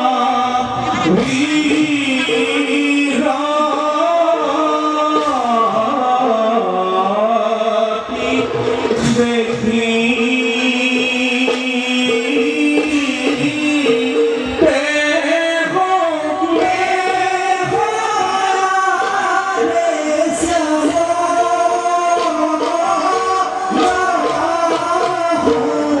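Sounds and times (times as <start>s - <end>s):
drum strokes: 0.0s - 26.0s
men chanting a devotional song: 0.0s - 26.0s.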